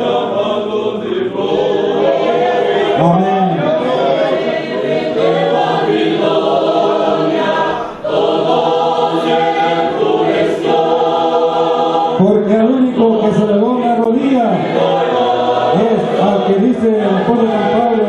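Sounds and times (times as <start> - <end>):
church choir singing a hymn: 0.0 - 18.0.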